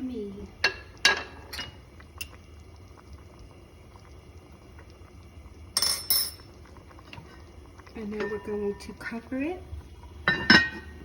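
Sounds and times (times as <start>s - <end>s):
sauce bubbling in pan: 0.0s - 11.0s.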